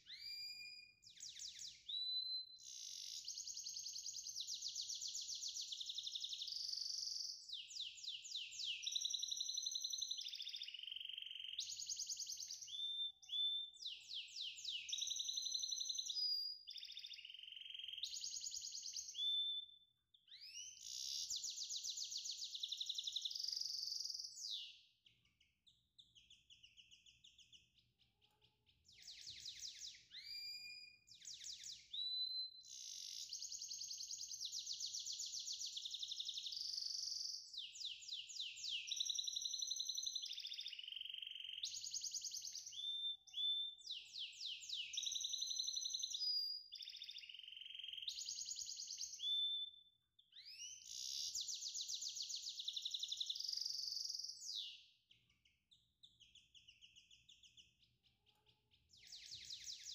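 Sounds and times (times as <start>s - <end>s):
songbird trilling and whistling: 0.0s - 59.9s.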